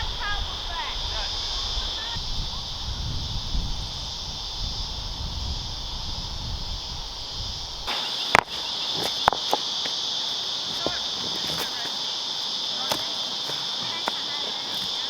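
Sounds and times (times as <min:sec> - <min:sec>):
insect chorus: 0:00.0 - 0:15.0.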